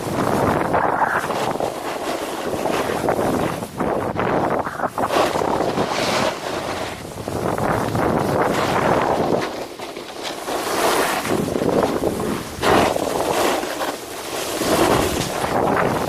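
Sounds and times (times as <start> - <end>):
snowboard scraping on snow: 0.0 - 16.0
wind noise on microphone: 0.0 - 16.0.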